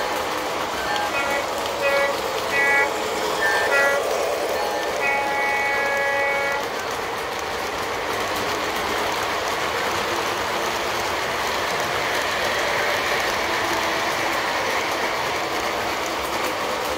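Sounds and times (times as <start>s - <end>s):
model train wheels rolling on rails: 0.0s - 16.9s.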